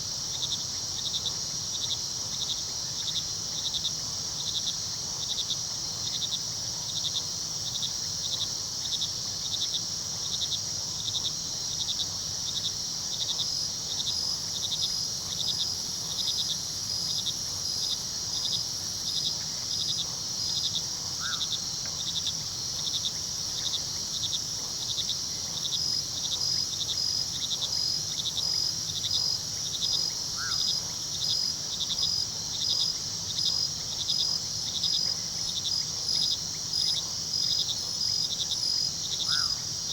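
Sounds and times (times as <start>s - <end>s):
crickets chirping: 0.0s - 39.9s
high insect trill: 0.2s - 39.9s.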